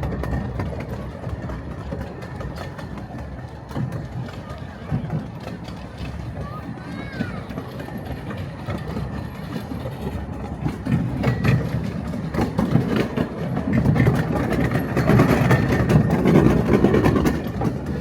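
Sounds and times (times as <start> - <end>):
miniature train running: 0.0 - 18.0
wheels clicking over rails: 0.0 - 18.0.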